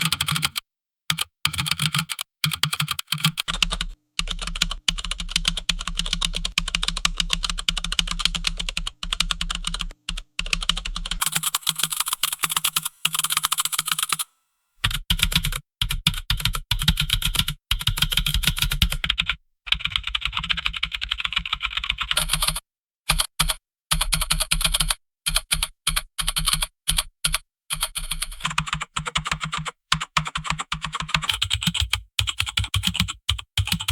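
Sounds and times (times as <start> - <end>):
typing on a keyboard: 0.0 - 33.9.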